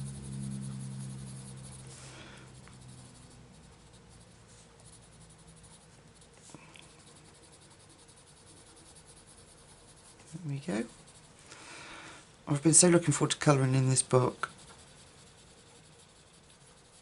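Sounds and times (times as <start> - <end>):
pencil scratching on paper: 0.0 - 11.4, 12.6 - 17.0.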